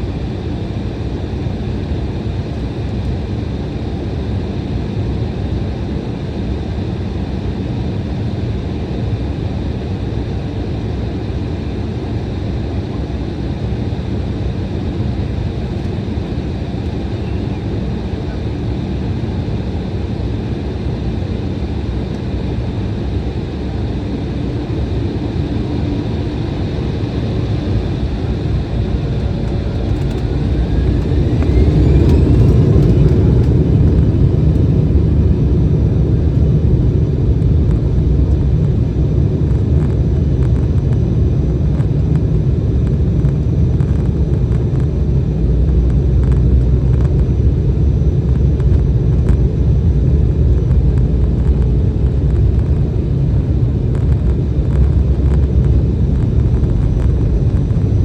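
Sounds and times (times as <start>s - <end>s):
jet cabin low rumble: 0.0s - 58.0s
turbofan engines whining: 0.0s - 58.0s.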